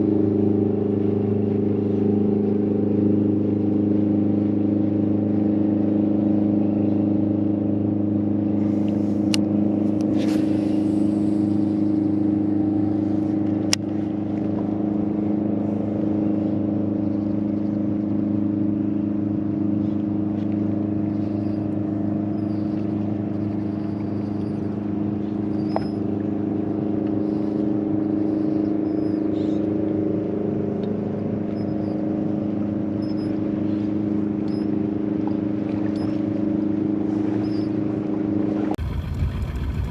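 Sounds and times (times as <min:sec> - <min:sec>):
boat motor droning: 0:00.0 - 0:39.9.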